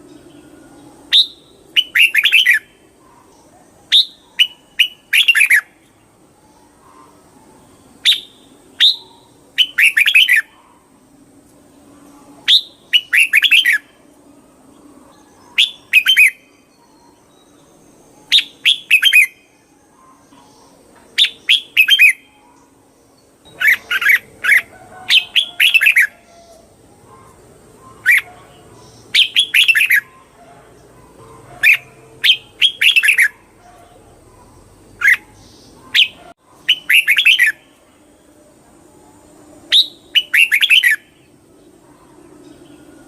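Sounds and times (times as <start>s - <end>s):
bulbul singing chirps: 0.0s - 11.0s, 11.8s - 38.4s, 39.0s - 43.0s.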